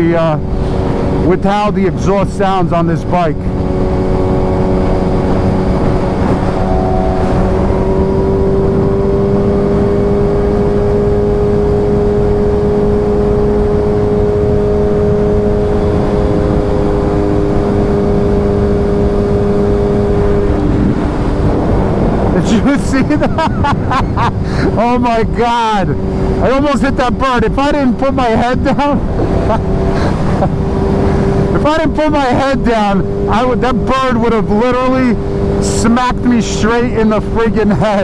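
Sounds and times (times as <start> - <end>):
motorcycle engine cruising: 0.0 - 38.0
wind and road rumble: 0.0 - 38.0.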